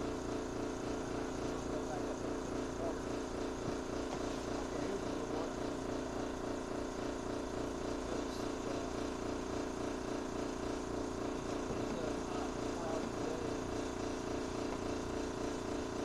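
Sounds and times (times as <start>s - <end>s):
pulsing motor drone: 0.0s - 16.0s.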